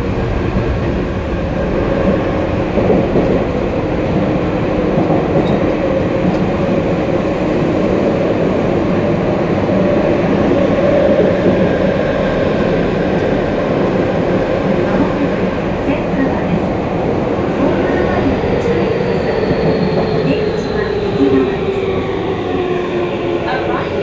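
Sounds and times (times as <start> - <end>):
train wheels rumbling in tunnel: 0.0 - 24.0.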